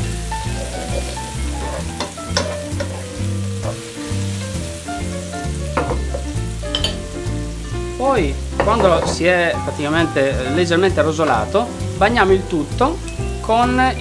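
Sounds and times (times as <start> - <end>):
background music with bass line: 0.0 - 14.0
food sizzling in a frying pan: 0.0 - 14.0.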